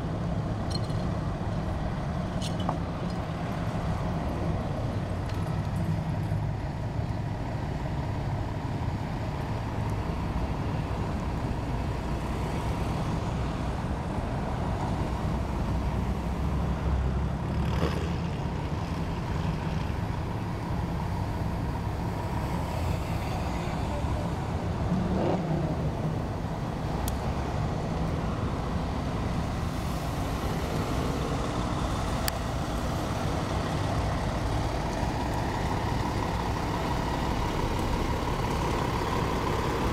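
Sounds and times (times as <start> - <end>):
idling engines rumble: 0.0 - 39.9
road traffic: 0.0 - 39.9.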